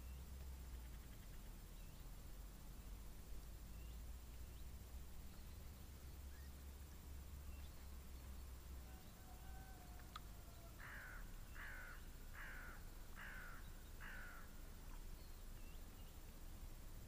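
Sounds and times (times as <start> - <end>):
faint small birds chirping: 0.0 - 17.0.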